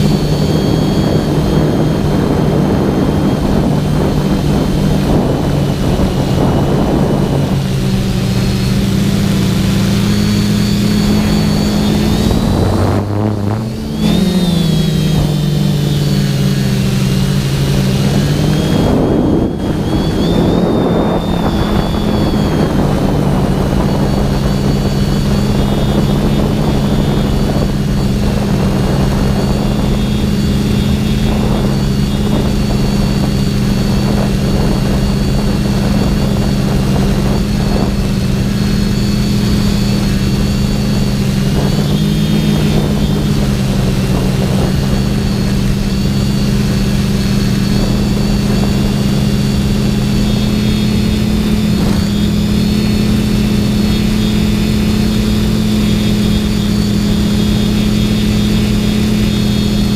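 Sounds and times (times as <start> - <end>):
drone motors whining: 0.0 - 59.9
wind rushing: 0.0 - 59.9.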